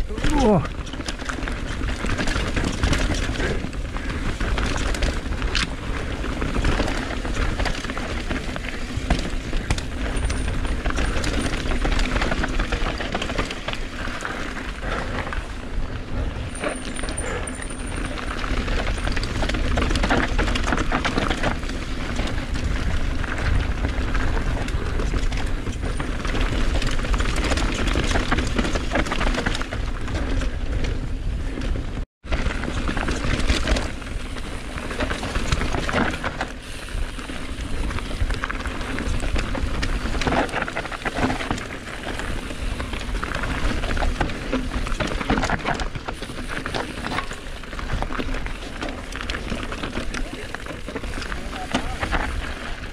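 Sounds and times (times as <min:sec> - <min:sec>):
bike rattling and clattering: 0:00.0 - 0:52.9
wind and tyre noise: 0:00.0 - 0:52.9.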